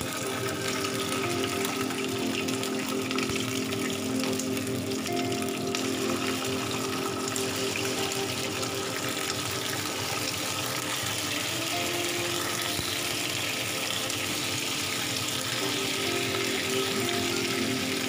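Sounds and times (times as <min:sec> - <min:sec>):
chicken frying in hot oil: 0:00.0 - 0:18.0.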